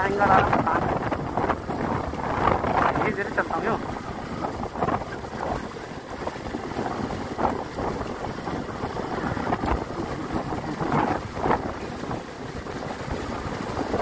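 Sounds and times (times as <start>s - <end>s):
motorbike engine rumble: 0.0s - 14.0s
wind buffeting microphone: 0.0s - 14.0s.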